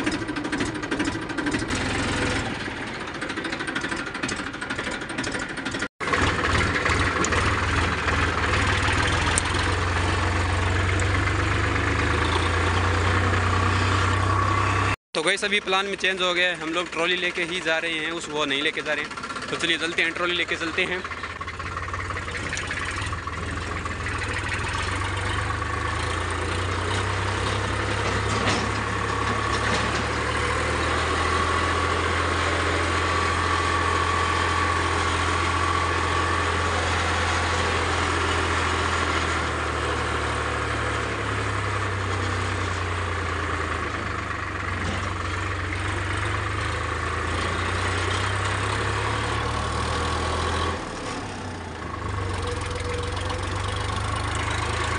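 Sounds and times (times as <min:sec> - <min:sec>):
tractor engine drone: 0:00.0 - 0:54.9.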